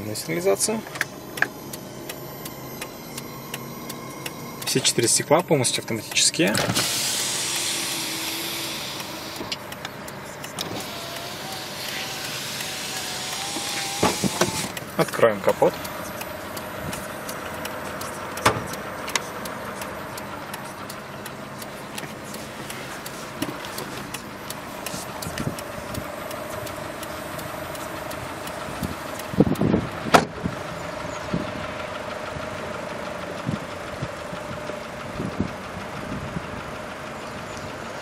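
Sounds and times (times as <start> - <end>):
steady hum: 0.0 - 32.2.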